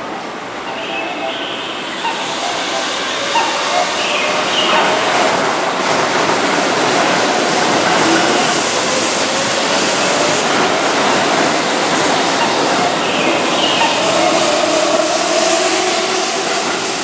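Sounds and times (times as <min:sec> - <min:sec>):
electric train pulling out: 0:00.4 - 0:17.0.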